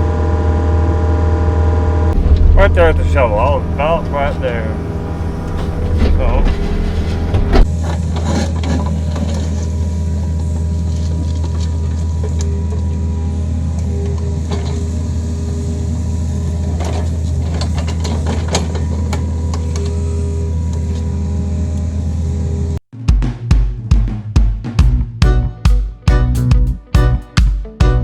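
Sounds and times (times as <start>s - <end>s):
excavator diesel engine: 0.0s - 22.8s.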